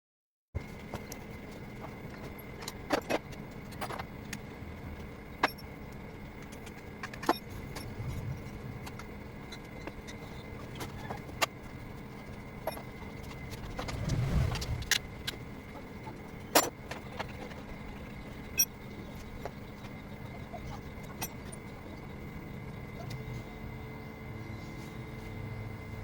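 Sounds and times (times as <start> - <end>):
steady low hum: 0.6 - 26.0.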